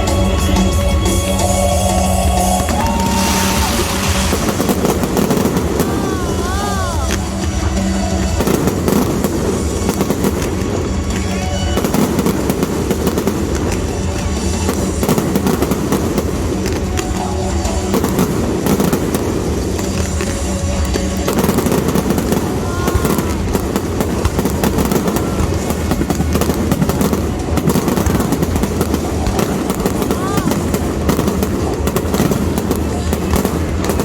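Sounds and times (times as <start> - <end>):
fireworks bangs and crackles: 0.0 - 34.0
music over loudspeakers: 0.0 - 34.0.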